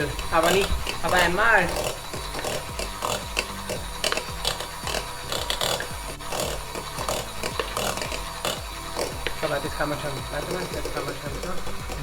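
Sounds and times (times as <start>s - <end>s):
beaters scraping a bowl: 0.0s - 12.0s
electric mixer motor running: 0.0s - 12.0s.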